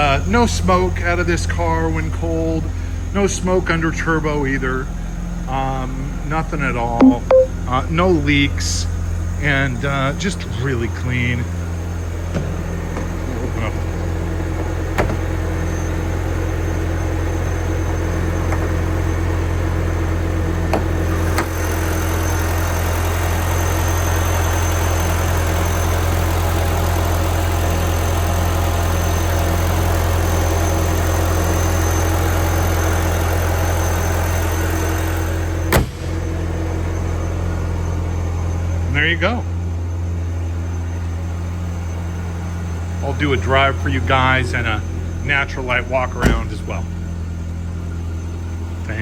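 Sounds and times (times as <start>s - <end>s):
car engine idling: 0.0s - 7.0s, 7.6s - 49.0s.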